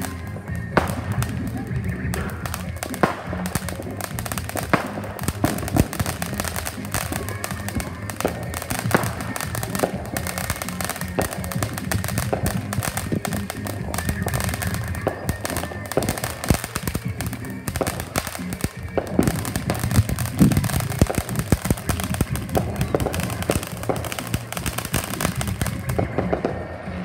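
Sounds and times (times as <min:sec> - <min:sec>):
fireworks crackling: 0:00.0 - 0:27.0
loud firework bangs: 0:00.0 - 0:27.0.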